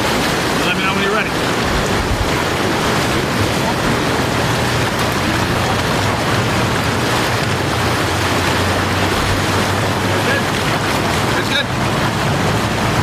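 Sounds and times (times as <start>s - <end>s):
fast-flowing river water: 0.0s - 13.0s
water splashing against raft: 0.0s - 13.0s
wind buffeting microphone: 0.0s - 13.0s.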